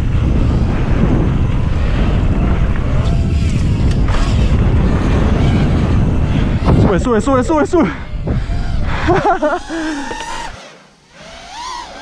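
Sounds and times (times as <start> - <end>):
wind buffeting microphone: 0.0 - 10.6
drone motors whining: 0.0 - 12.0.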